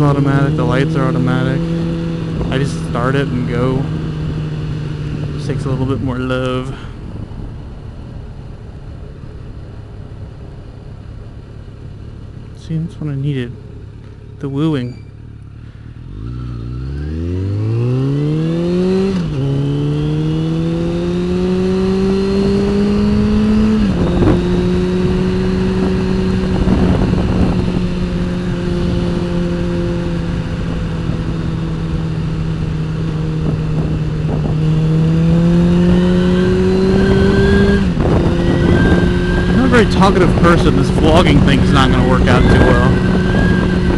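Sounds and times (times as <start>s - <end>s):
motorcycle engine accelerating: 0.0s - 43.9s
wind and road noise: 0.0s - 43.9s.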